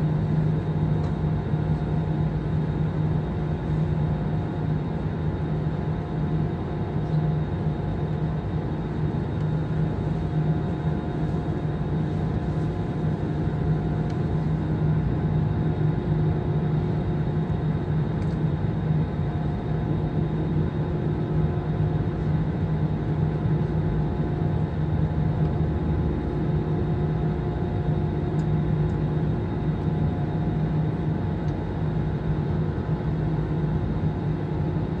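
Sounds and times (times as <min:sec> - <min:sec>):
jet engines idling in cabin: 0:00.0 - 0:35.0.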